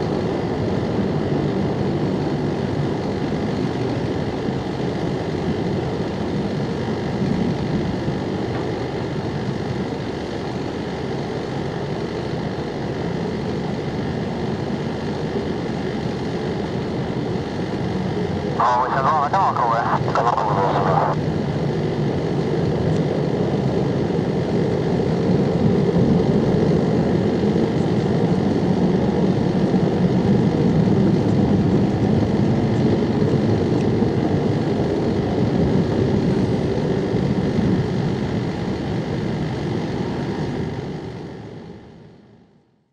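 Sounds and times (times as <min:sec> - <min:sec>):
deep jet engine noise: 0:00.0 - 0:42.9.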